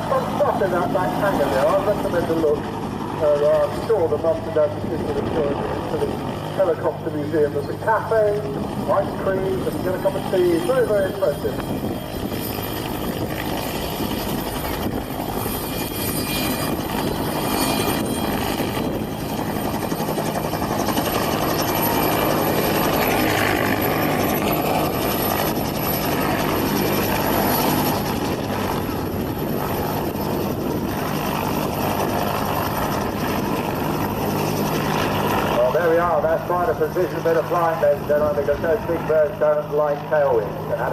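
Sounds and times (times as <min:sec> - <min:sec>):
helicopter rotor and engine: 0:00.0 - 0:40.9.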